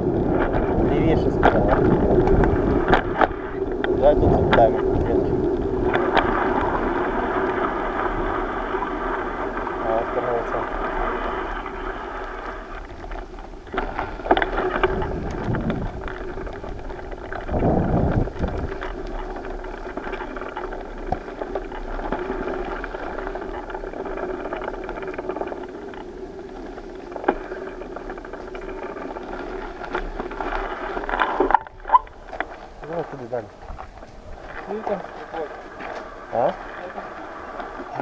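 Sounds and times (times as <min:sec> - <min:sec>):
bicycle tyre and road noise: 0:00.0 - 0:38.0
low rumble: 0:00.0 - 0:38.0
bike clicks and rattles: 0:00.2 - 0:08.4, 0:09.0 - 0:36.6.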